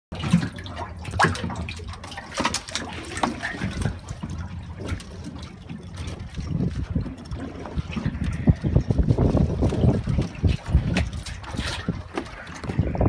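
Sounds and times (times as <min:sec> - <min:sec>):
water sloshing and trickling: 0:00.1 - 0:13.0.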